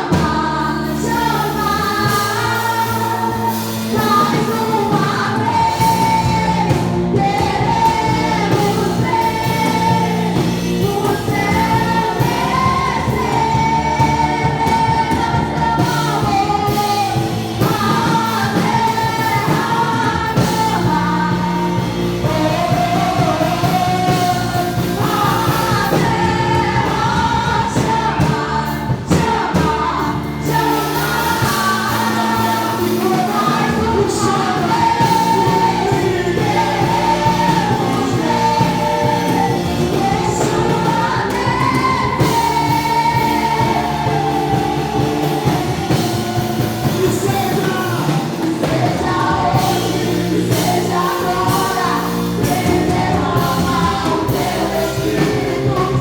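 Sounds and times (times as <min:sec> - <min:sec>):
worship singing: 0:00.0 - 0:56.0.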